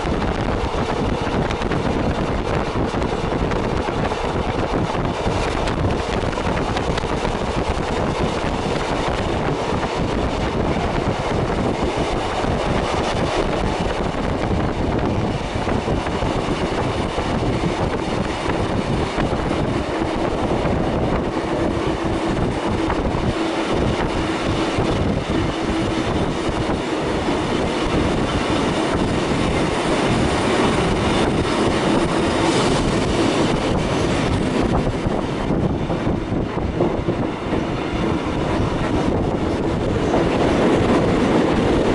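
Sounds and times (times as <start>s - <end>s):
train wheels rumbling: 0.0s - 41.9s.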